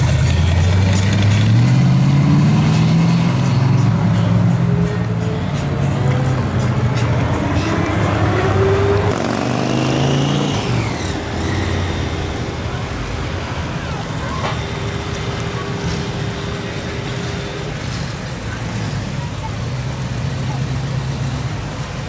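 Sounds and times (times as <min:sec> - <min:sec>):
car engines running low: 0:00.0 - 0:22.0
traffic noise: 0:00.0 - 0:22.0
voices: 0:00.0 - 0:22.0.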